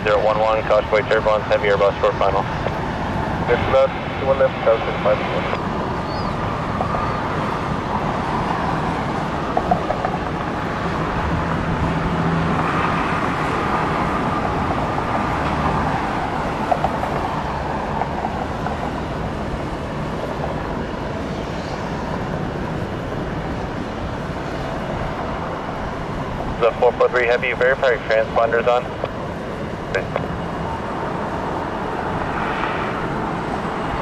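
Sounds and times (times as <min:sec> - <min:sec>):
jet engines rushing rumble: 0:00.0 - 0:34.0.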